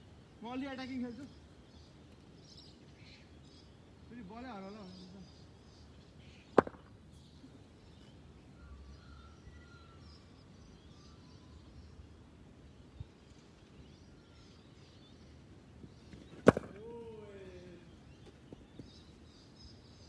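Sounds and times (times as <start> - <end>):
faint bird chirps: 0.3 - 20.0.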